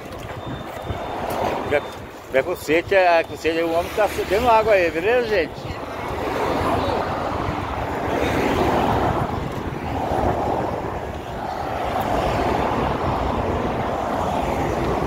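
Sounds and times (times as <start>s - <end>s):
highway traffic passing: 0.0s - 15.0s.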